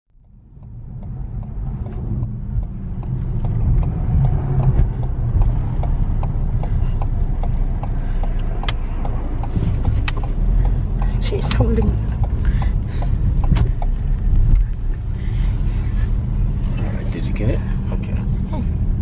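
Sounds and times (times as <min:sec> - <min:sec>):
car engine rumbling: 0:00.1 - 0:19.0.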